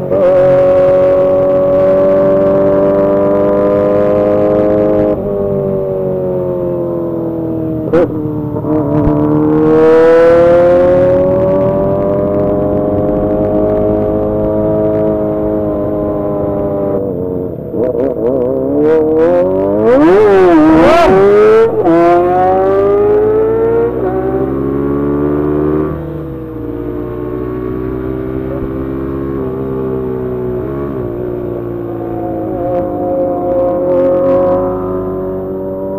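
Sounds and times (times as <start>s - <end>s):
motorcycle engine at high revs: 0.0s - 35.9s.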